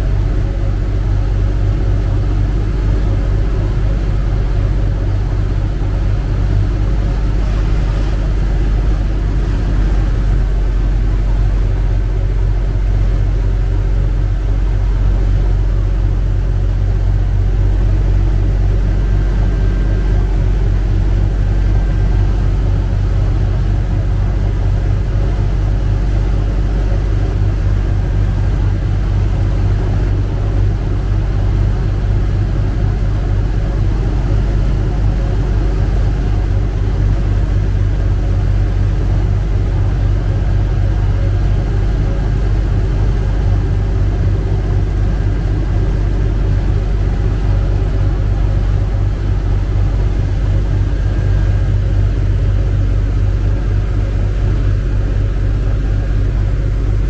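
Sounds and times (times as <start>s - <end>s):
boat engine rumbling: 0.0s - 57.0s.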